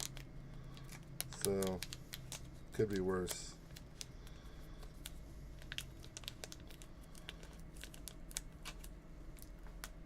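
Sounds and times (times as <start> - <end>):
light clicking and crinkling: 0.0 - 10.0
low steady hum: 0.0 - 10.0.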